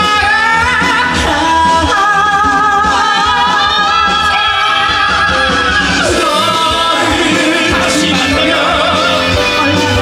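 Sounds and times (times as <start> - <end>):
band accompaniment: 0.0 - 10.0
person singing with vibrato: 0.0 - 10.0.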